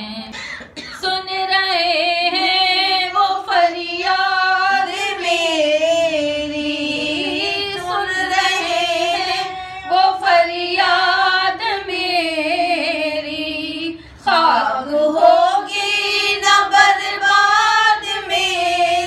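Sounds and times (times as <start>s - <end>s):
women singing a hymn unaccompanied: 1.0s - 19.0s.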